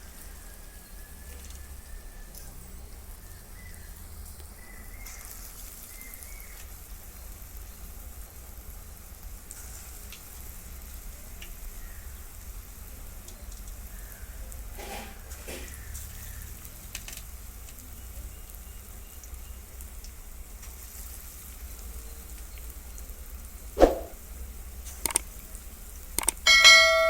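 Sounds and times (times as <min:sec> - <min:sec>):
batter sizzling in hot oil: 0:00.0 - 0:23.6.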